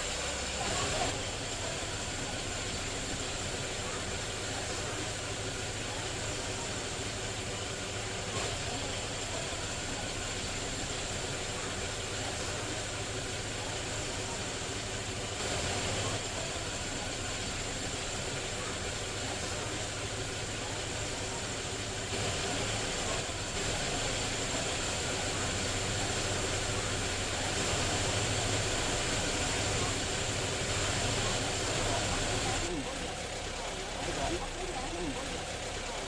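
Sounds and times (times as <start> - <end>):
car engine idling roughly: 0.0 - 36.0.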